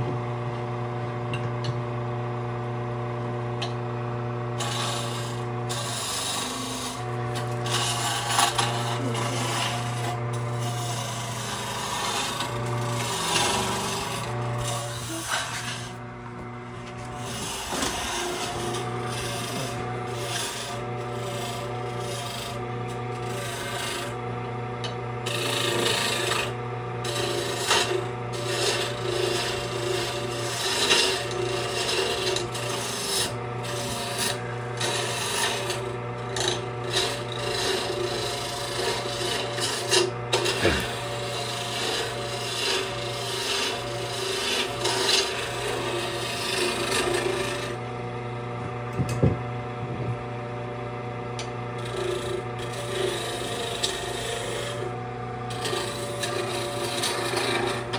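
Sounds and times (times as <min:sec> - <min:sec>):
lathe motor hum: 0:00.0 - 0:57.9
turning tool scraping wood: 0:04.5 - 0:48.2, 0:51.4 - 0:57.9.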